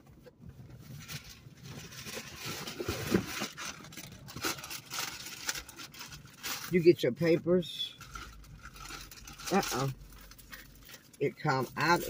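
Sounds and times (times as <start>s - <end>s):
packaging rustling and scraping: 0.0s - 6.8s, 8.0s - 12.0s.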